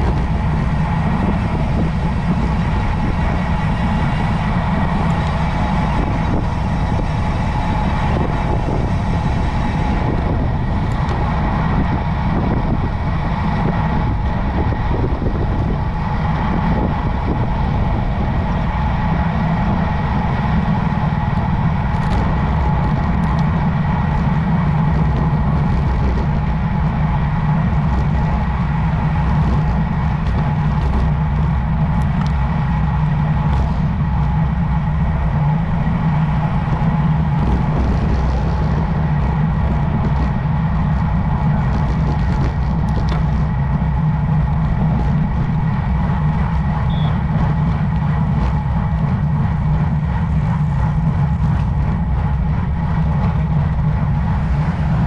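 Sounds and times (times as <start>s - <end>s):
faint hum: 0.0s - 55.0s
road rumble: 0.0s - 55.0s
wind: 0.0s - 55.0s.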